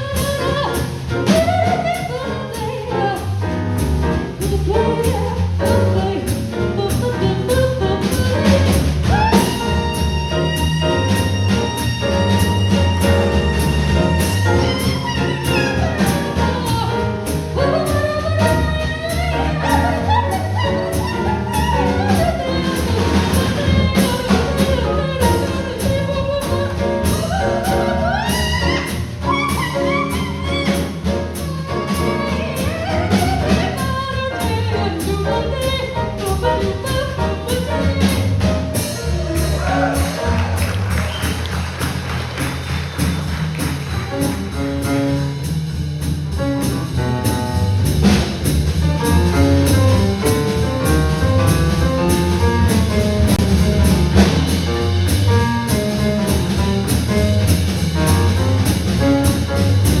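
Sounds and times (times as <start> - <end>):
instrumental jazz music: 0.0 - 60.0.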